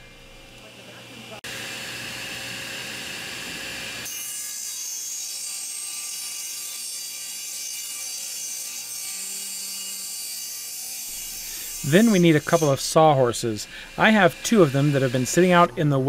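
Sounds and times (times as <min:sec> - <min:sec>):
table saw ripping wood: 0:01.8 - 0:15.7.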